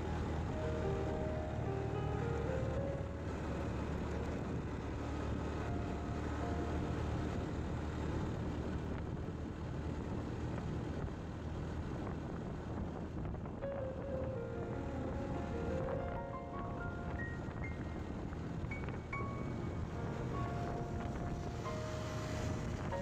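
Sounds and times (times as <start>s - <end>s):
motorcycle engine drone: 0.0s - 23.0s
wind and road noise: 0.0s - 23.0s.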